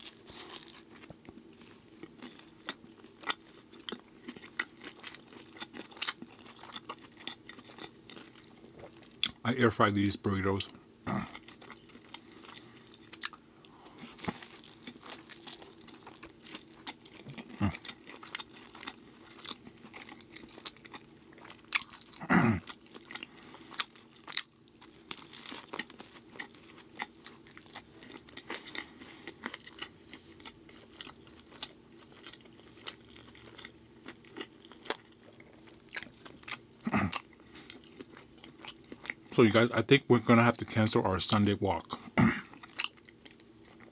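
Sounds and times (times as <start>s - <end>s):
chewing crunchy food: 0.0s - 43.9s.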